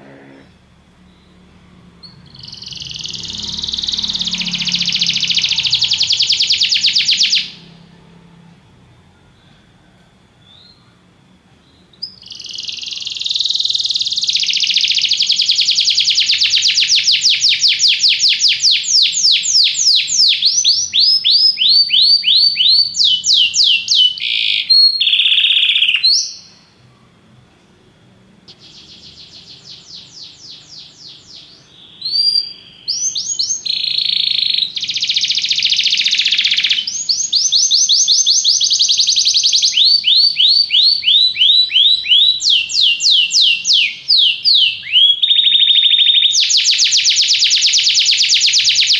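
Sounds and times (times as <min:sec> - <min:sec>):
canary singing trills: 0:00.0 - 0:08.4, 0:09.3 - 0:26.8, 0:28.5 - 0:48.9.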